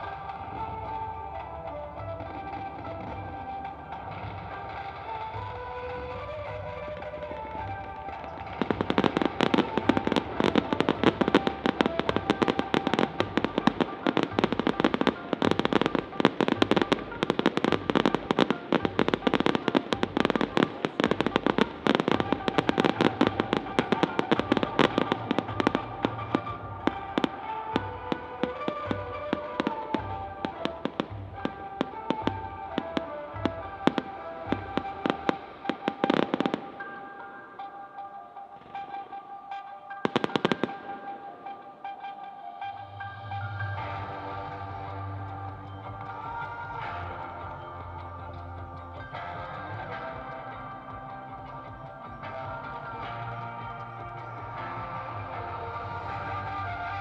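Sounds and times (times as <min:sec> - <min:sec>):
fireworks crackling: 0:00.0 - 0:57.0
show music: 0:00.0 - 0:57.0.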